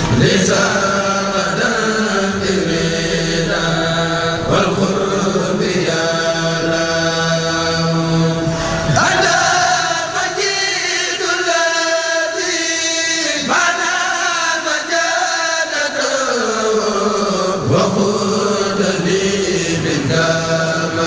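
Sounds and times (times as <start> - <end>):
voices chanting devotional poem: 0.0 - 21.0.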